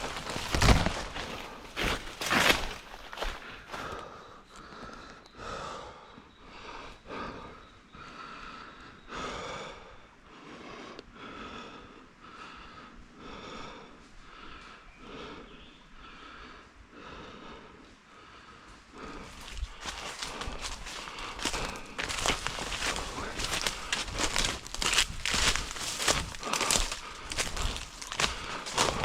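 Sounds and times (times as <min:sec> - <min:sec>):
person breathing heavily: 0:00.0 - 0:29.0.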